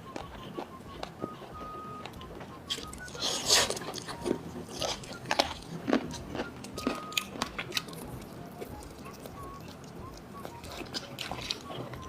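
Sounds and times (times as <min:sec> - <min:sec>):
biting and chewing: 0:00.0 - 0:12.0
crab legs cracking and crunching: 0:02.2 - 0:12.0.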